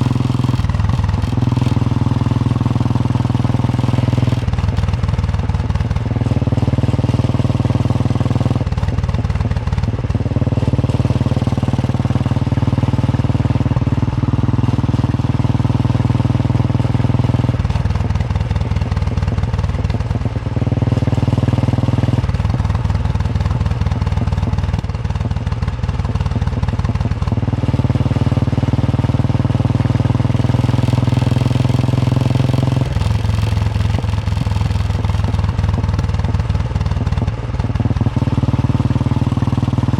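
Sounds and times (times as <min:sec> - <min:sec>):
motorcycle engine thumping: 0:00.0 - 0:28.0, 0:32.2 - 0:39.9.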